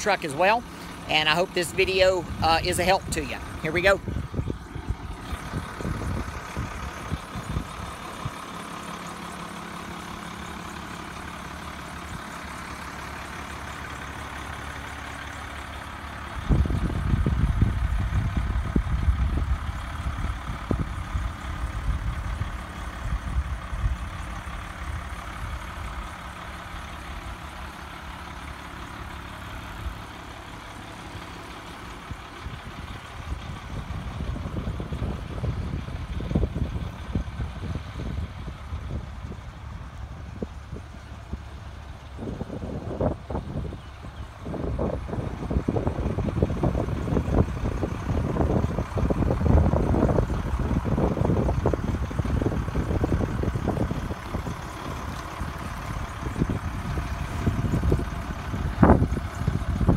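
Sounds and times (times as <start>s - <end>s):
diesel engine idling: 0.0s - 59.9s
irregular low rumbling: 2.2s - 59.9s.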